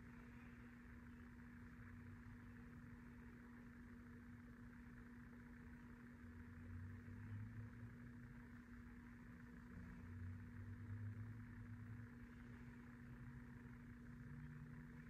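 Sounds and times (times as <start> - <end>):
faint low rumble: 0.0 - 15.0
steady low hum: 0.0 - 15.0.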